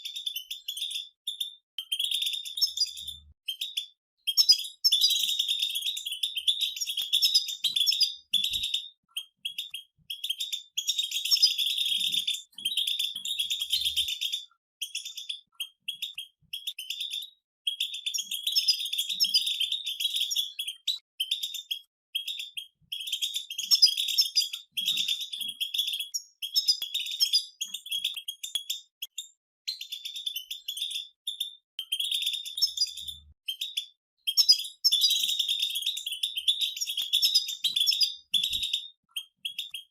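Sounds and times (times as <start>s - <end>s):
goldfinches twittering: 0.1s - 28.7s, 34.3s - 38.8s.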